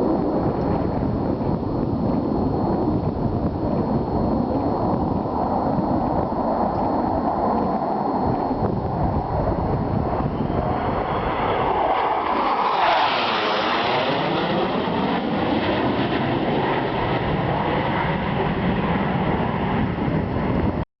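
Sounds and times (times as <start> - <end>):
fighter jet roaring past: 0.0 - 20.8.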